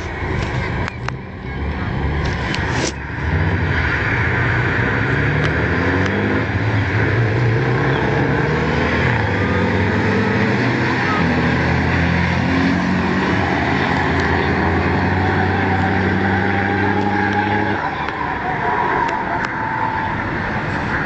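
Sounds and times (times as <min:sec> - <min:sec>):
truck diesel engines revving: 0:00.0 - 0:21.0.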